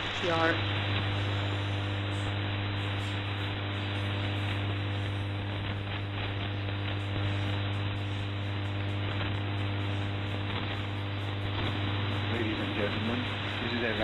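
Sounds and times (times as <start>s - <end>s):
low hum: 0.0s - 14.0s
radio static hiss: 0.0s - 14.0s.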